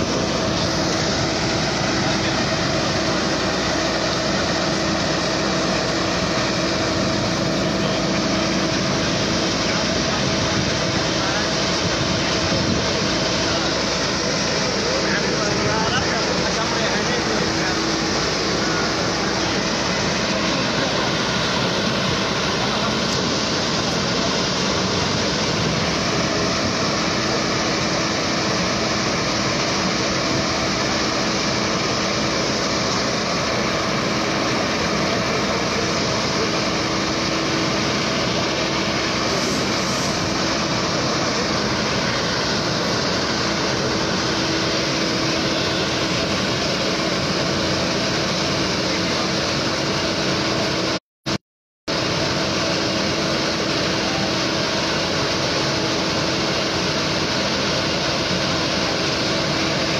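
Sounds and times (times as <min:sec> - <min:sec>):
even rushing noise: 0:00.0 - 0:51.0
fire engines droning hum: 0:00.0 - 0:59.9.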